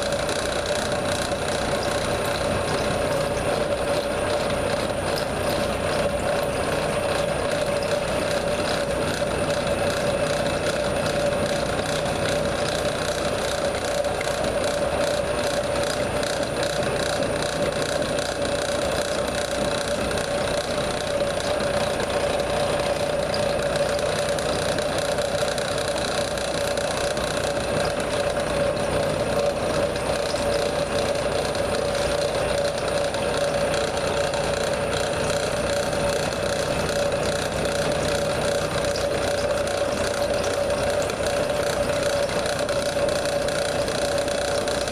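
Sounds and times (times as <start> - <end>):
fine cutting rattle: 0.0 - 44.9
milling machine whine: 0.0 - 44.9.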